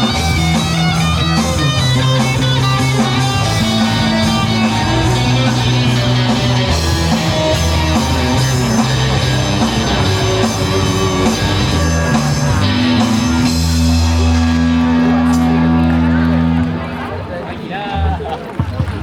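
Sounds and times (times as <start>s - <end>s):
rock band playing: 0.0s - 17.4s.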